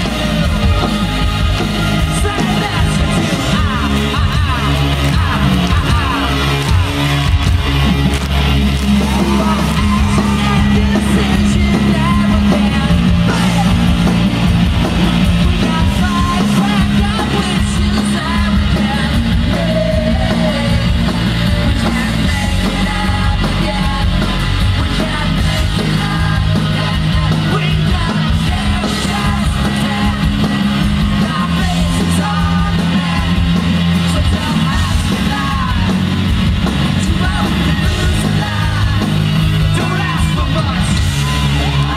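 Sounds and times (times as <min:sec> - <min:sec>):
live rock band playing: 0:00.0 - 0:41.9
man singing lead: 0:00.0 - 0:41.9.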